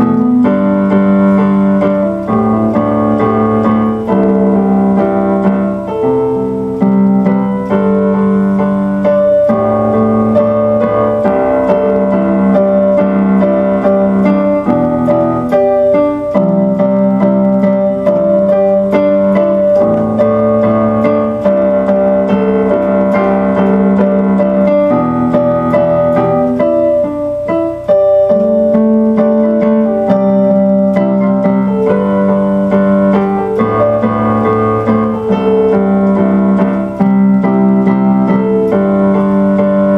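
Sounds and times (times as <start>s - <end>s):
piano chords: 0.0s - 39.9s.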